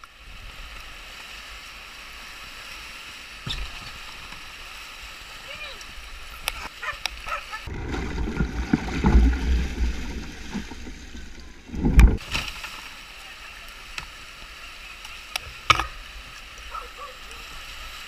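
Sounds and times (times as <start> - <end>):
whitewater rushing around hull: 0.0 - 18.0
canoe scraping along bank: 1.0 - 18.0.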